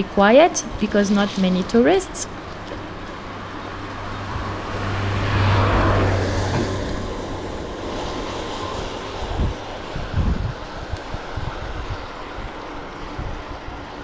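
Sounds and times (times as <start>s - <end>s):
passing engine hum: 0.0s - 14.0s.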